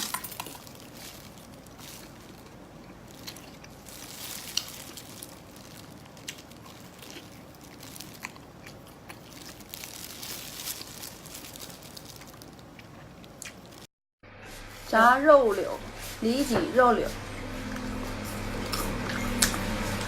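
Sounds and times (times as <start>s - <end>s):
crunching and chewing food: 0.0s - 13.9s, 17.1s - 20.0s.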